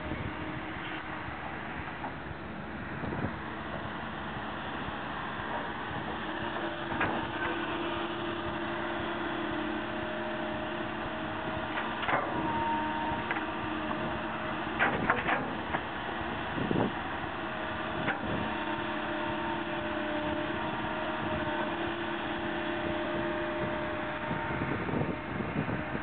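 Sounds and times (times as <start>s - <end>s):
excavator engine and hydraulic drone: 0.0s - 26.0s.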